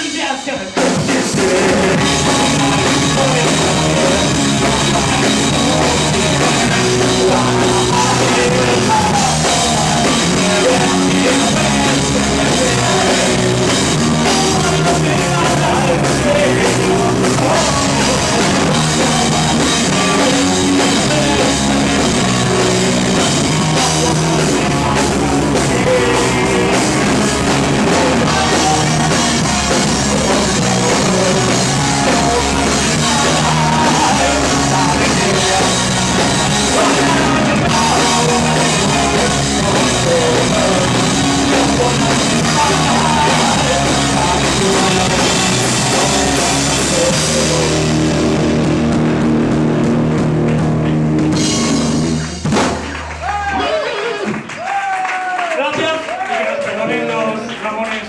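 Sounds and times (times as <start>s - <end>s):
rock band playing live: 0.0s - 54.6s
drum kit: 0.0s - 55.0s.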